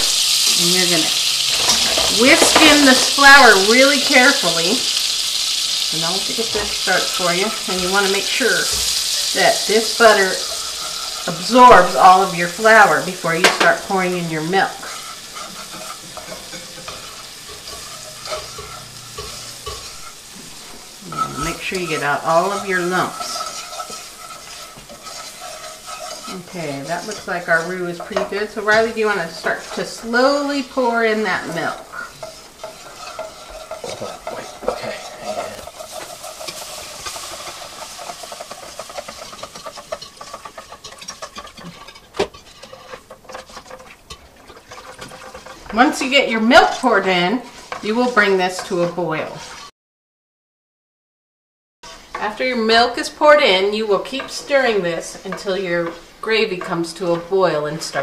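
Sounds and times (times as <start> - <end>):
roux sizzling: 0.0 - 49.7, 51.8 - 58.0
whisk scraping a frying pan: 0.0 - 49.7, 51.8 - 58.0.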